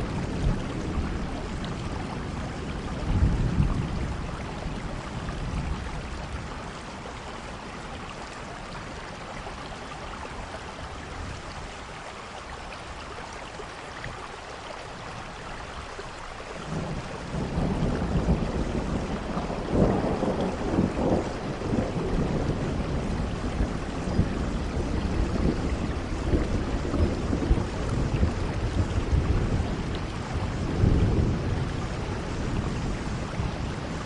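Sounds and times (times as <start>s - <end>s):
low rumble of thunder: 0.0s - 12.1s, 16.2s - 34.0s
steady rain: 0.0s - 34.0s.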